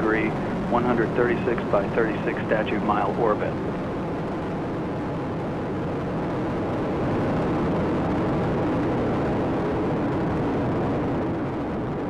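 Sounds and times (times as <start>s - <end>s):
low rocket rumble: 0.0s - 12.0s.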